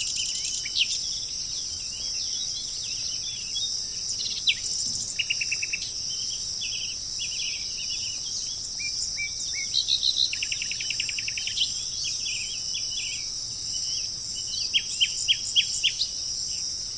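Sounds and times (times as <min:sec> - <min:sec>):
bird trill: 0:00.0 - 0:16.7
insect chorus: 0:00.0 - 0:16.9
songbirds singing: 0:00.0 - 0:16.9.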